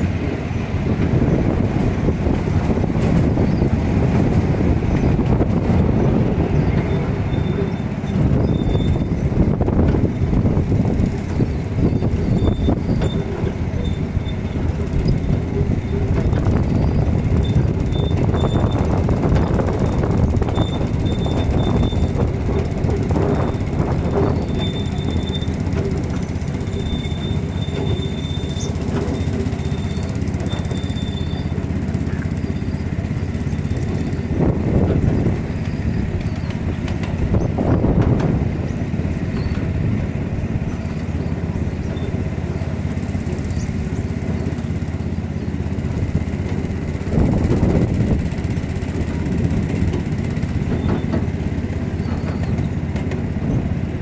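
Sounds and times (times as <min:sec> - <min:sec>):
miniature train rumbling on rails: 0:00.0 - 0:54.0.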